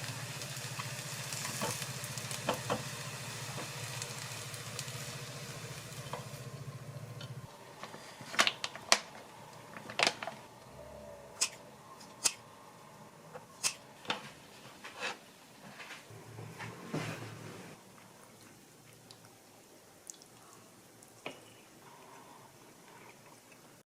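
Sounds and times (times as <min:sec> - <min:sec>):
low steady hum: 0:00.0 - 0:23.8.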